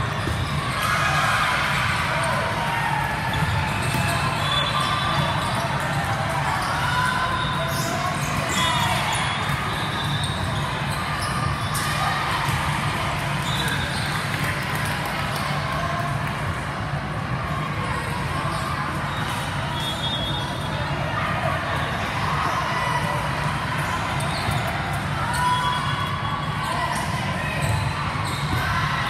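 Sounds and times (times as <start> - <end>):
crowd and player voices: 0.0 - 29.0.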